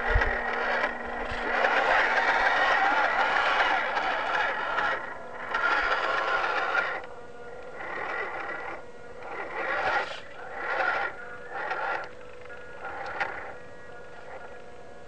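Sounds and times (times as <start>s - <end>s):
small electric motor whining: 0.0s - 15.0s
tyres scraping over gravel: 0.2s - 14.6s.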